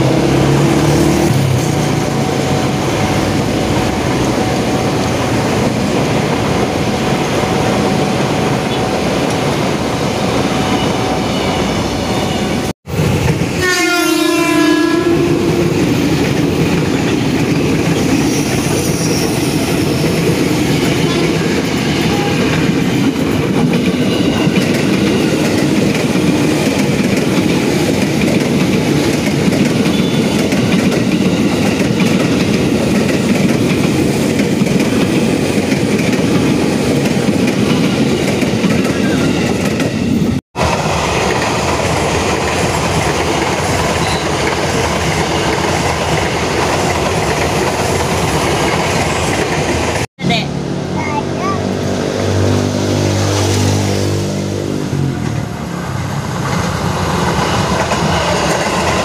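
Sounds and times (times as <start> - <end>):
trains passing on rails: 0.0 - 59.0.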